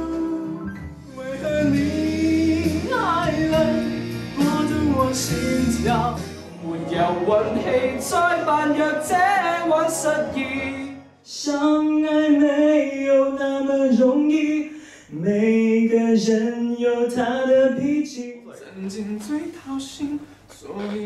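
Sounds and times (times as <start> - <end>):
men singing unaccompanied: 0.0 - 20.2.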